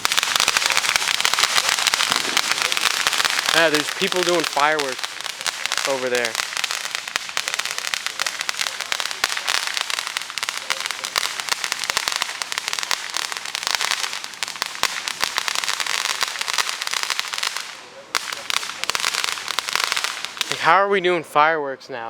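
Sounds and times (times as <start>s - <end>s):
distant firecrackers crackling: 0.0s - 20.7s.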